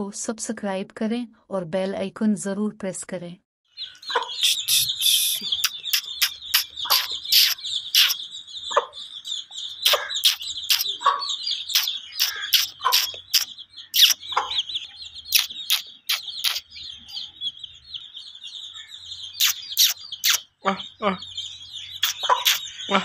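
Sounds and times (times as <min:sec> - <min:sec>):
chicks peeping: 0:03.7 - 0:23.0.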